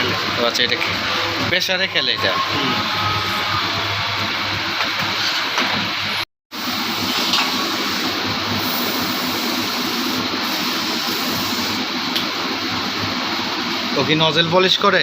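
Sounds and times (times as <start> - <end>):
workshop machinery whooshing: 0.0 - 14.9.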